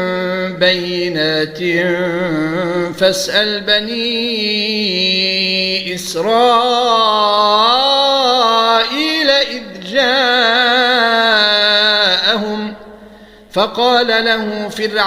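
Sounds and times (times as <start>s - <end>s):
man reciting melodic chant: 0.0s - 15.0s.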